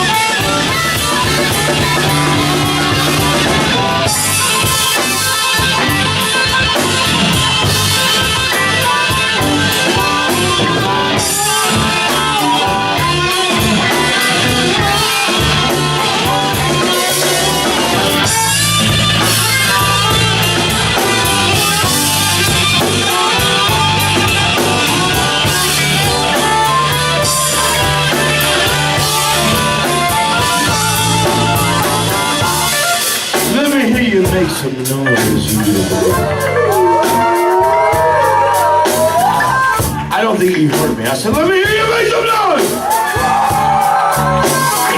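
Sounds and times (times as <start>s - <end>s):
electric guitar: 0.0s - 44.9s
live blues band playing: 0.0s - 44.9s.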